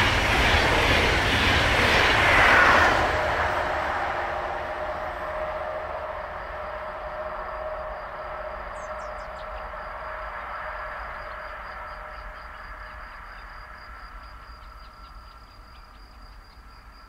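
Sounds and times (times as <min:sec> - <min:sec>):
train rolling rumble and hum: 0:00.0 - 0:17.0.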